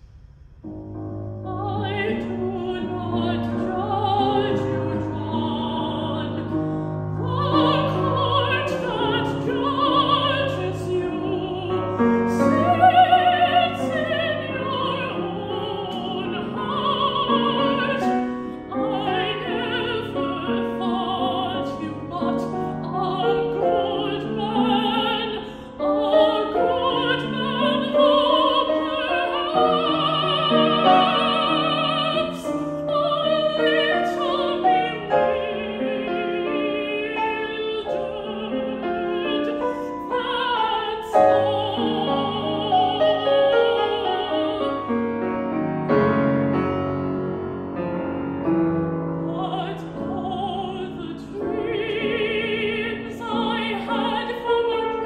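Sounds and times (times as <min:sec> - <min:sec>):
grand piano: 0:00.0 - 0:55.0
woman singing opera with vibrato: 0:01.4 - 0:45.2, 0:48.5 - 0:55.0.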